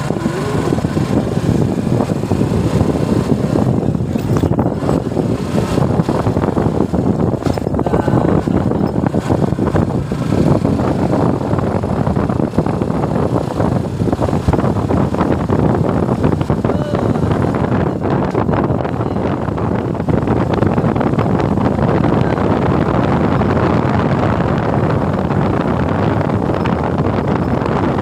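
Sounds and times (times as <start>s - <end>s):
motorcycle engine: 0.0s - 28.0s
road noise: 0.0s - 28.0s
wind buffeting microphone: 0.0s - 28.0s.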